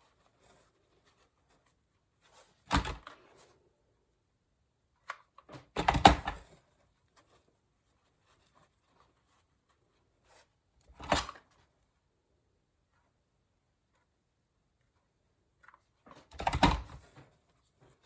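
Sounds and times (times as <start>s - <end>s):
bumps and rustles of handling: 0.0s - 4.1s, 4.9s - 12.1s, 12.8s - 18.0s.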